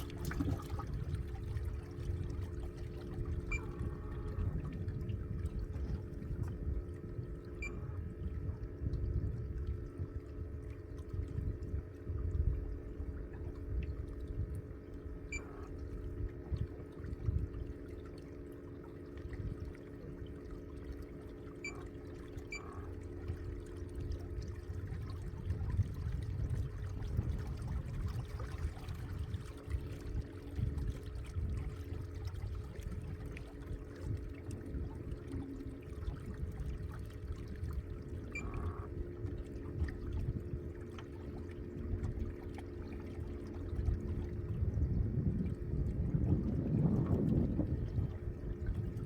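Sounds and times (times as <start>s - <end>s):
uneven low rumble: 0.0s - 18.0s, 22.5s - 49.0s
motor hum: 0.0s - 49.0s
water splashing and sloshing: 0.0s - 49.0s.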